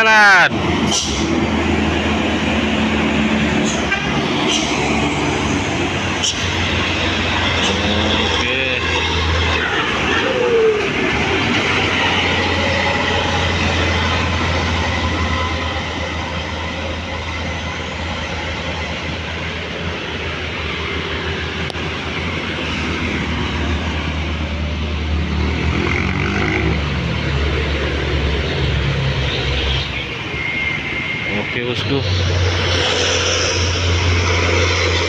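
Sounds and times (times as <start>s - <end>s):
truck diesel engine: 0.0s - 35.0s
tyre noise of passing vehicles: 0.0s - 35.0s.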